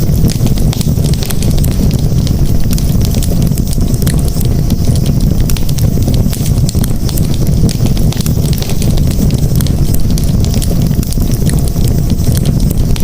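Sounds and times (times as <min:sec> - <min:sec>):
campfire crackling: 0:00.0 - 0:13.0
low rumble: 0:00.0 - 0:13.0.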